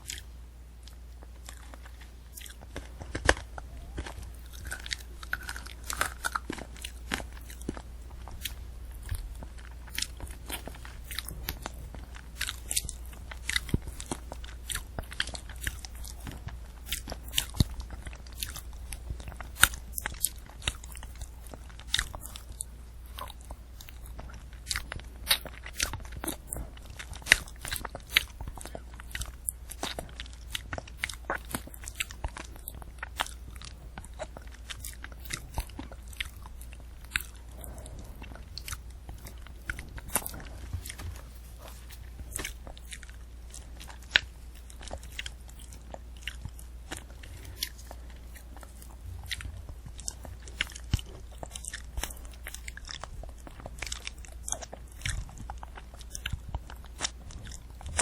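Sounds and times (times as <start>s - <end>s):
apple being chewed: 0.0s - 58.0s
candy apple crunching: 0.0s - 58.0s
low steady hum: 0.0s - 58.0s.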